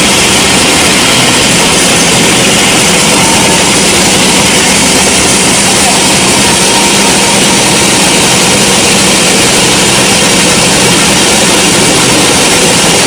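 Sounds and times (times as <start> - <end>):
low hum: 0.0 - 13.0
sawmill machinery running: 0.0 - 13.0.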